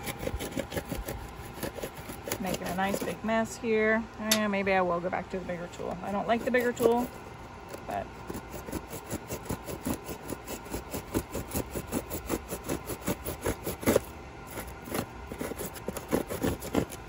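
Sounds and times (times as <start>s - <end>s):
blade sawing through foam: 0.0s - 3.4s, 6.0s - 17.0s.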